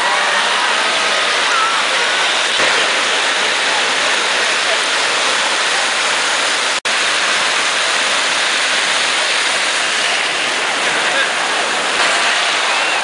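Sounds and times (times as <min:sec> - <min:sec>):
surf breaking: 0:00.0 - 0:13.0.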